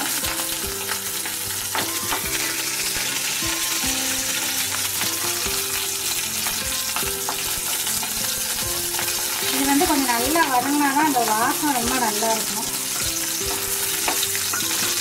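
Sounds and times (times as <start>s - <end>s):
chillies sizzling in hot oil: 0.0s - 15.0s.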